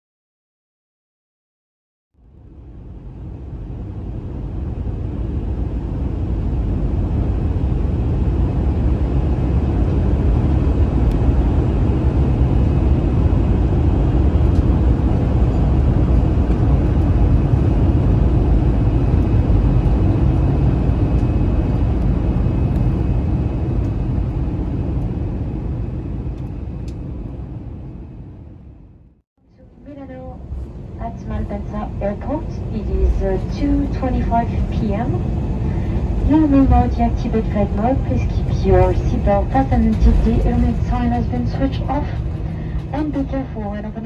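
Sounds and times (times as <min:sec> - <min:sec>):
airliner cabin engine roar: 0:02.2 - 0:44.0.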